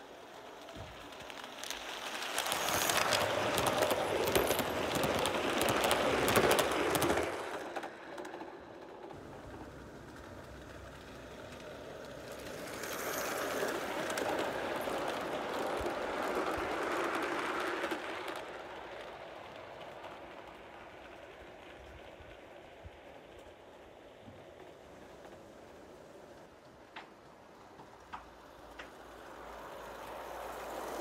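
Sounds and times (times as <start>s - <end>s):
model train rattling past: 0.0s - 31.0s.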